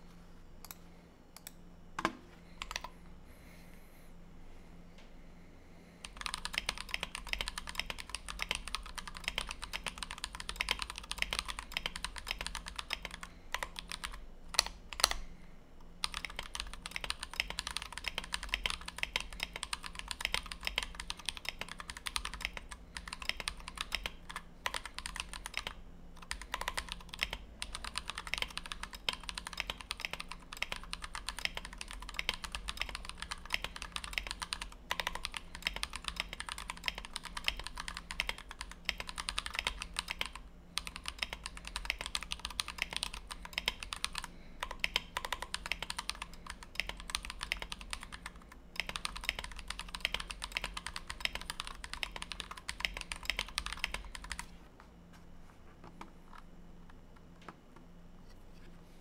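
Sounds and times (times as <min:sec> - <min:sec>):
fast typing on mechanical keyboard: 0:02.6 - 0:02.9, 0:06.0 - 0:15.2, 0:16.0 - 0:54.5.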